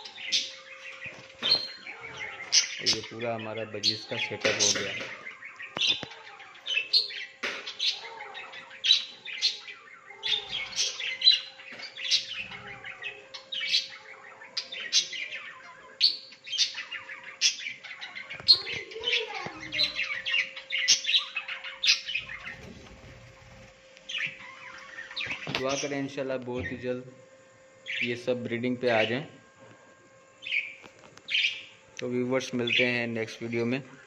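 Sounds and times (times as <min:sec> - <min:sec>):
budgerigars chirping: 0:00.0 - 0:26.8, 0:30.4 - 0:31.8, 0:32.4 - 0:33.8.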